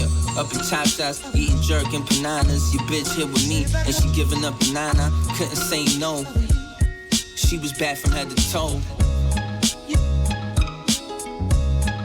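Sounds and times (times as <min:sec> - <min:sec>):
instrumental hip hop beat: 0:00.0 - 0:12.0.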